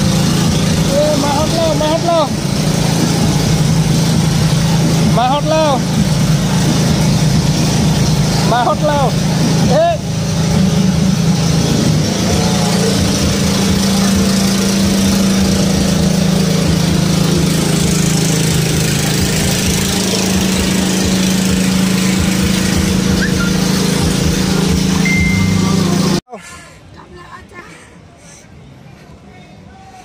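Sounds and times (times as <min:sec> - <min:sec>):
boat engine droning: 0:00.0 - 0:26.2.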